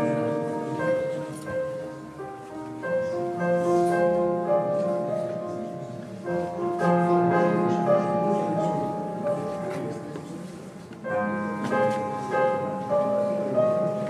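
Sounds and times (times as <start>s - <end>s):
electronic keyboard chords: 0.0s - 14.0s.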